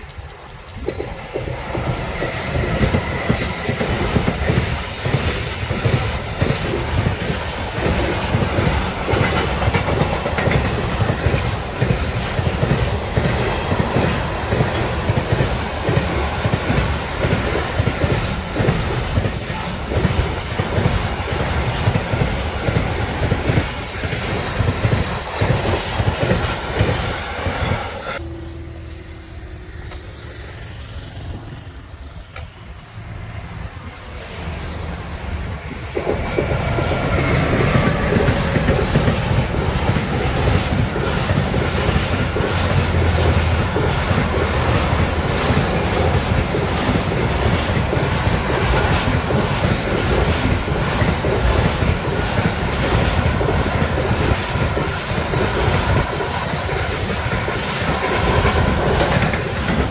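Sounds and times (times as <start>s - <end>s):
freight train wheels clattering: 0.0s - 28.0s, 34.3s - 59.9s.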